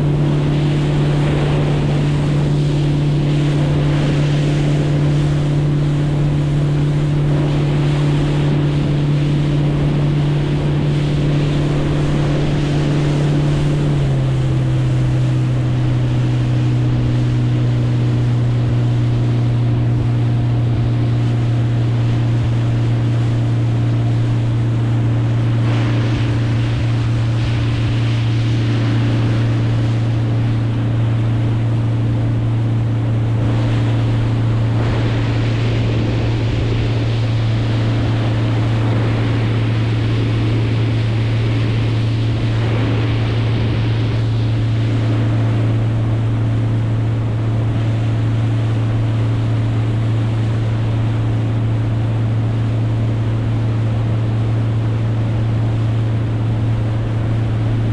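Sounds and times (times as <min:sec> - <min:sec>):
boat motor running: 0:00.0 - 0:57.9
water noise: 0:00.0 - 0:57.9
wind: 0:00.0 - 0:57.9.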